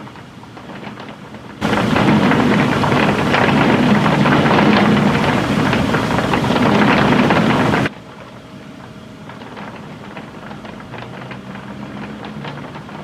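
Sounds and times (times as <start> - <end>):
heavy rain pouring: 0.6 - 7.9, 9.5 - 13.0.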